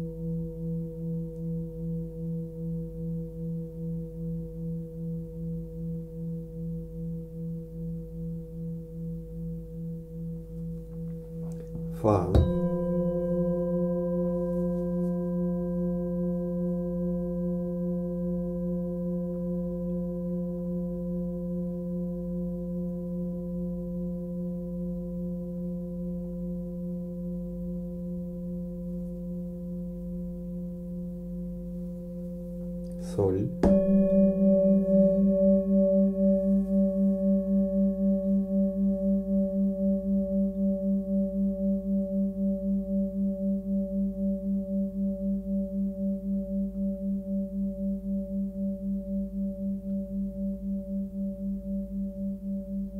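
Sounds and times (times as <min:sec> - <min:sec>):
singing bowl ringing: 0:00.0 - 0:52.9.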